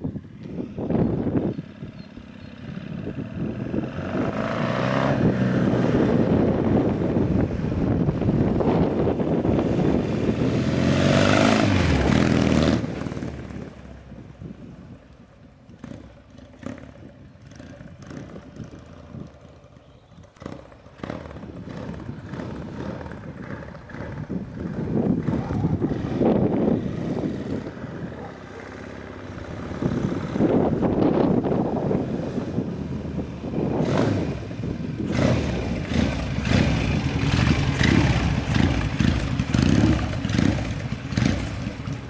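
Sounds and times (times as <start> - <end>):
motorcycle engine passing by: 0.6 - 13.9, 15.7 - 42.0.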